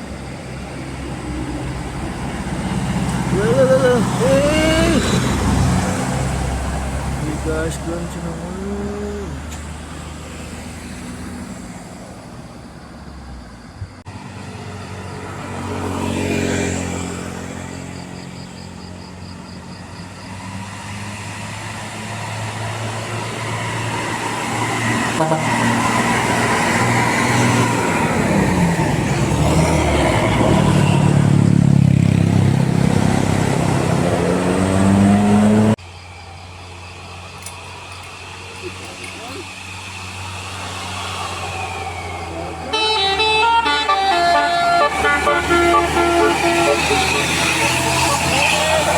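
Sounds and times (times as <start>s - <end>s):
bus engine climbing: 0.0s - 48.9s
vehicle passing: 0.0s - 48.9s.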